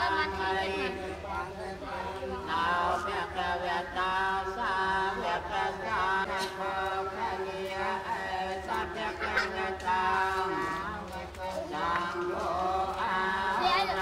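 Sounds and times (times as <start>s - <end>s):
group chanting prayer: 0.0s - 14.0s.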